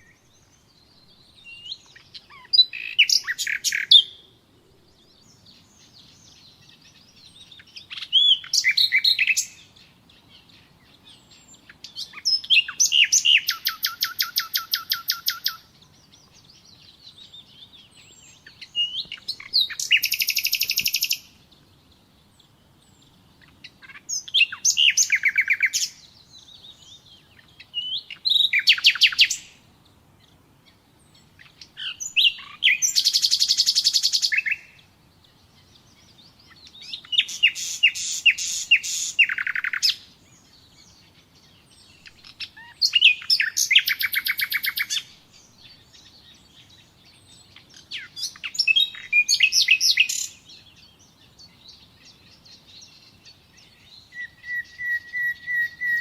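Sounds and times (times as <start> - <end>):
faint bird chirps: 0.0 - 56.0
nightingale singing: 0.0 - 56.0.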